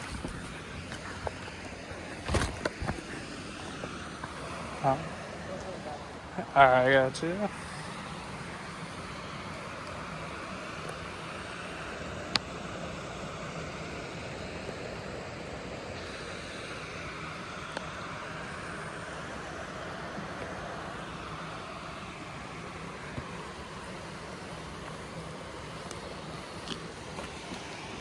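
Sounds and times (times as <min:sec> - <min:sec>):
creek water flowing: 0:00.0 - 0:28.0.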